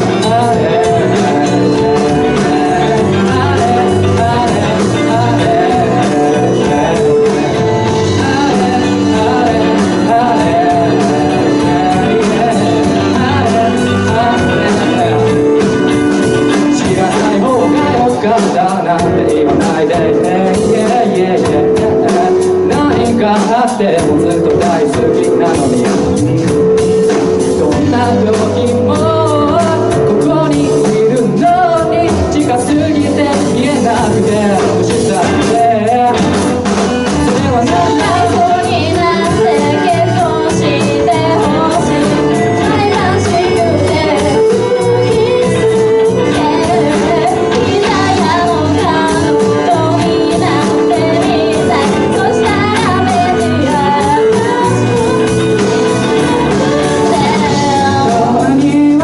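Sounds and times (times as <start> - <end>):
lead vocal singing: 0.0 - 59.0
live band playing pop song: 0.0 - 59.0.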